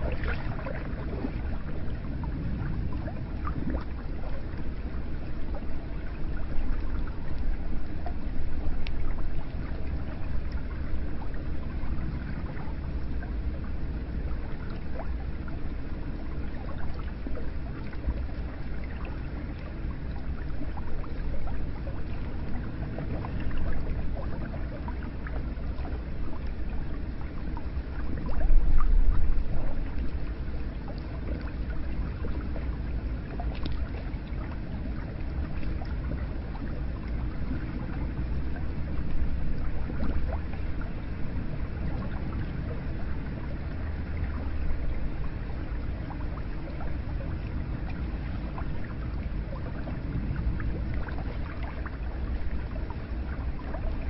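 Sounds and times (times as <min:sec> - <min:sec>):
water splashing and gurgling: 0:00.0 - 0:54.0.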